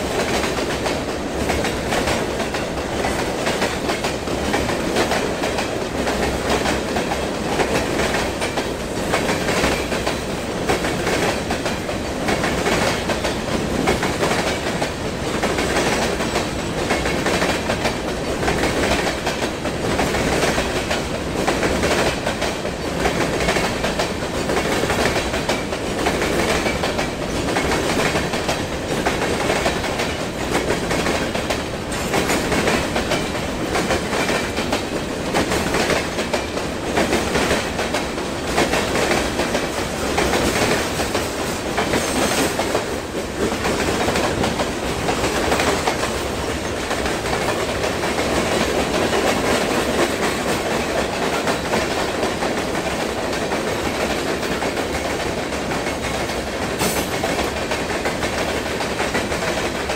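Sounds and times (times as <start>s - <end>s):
train wheels clacking on rails: 0.0s - 59.9s.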